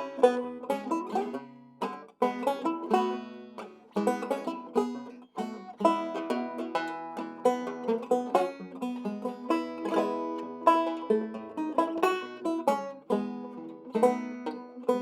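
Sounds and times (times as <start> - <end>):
banjo playing rag: 0.0 - 15.0.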